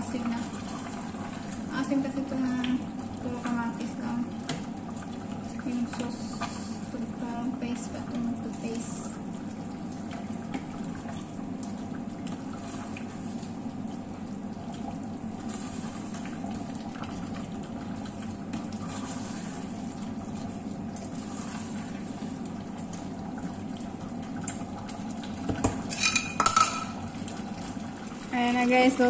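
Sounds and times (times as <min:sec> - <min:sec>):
stew bubbling: 0:00.0 - 0:29.0.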